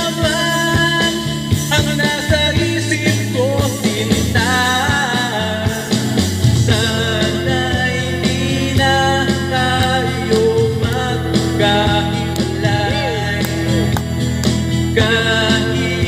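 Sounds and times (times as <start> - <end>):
instrumental backing music: 0.0 - 16.0
man singing into microphone: 0.0 - 16.0.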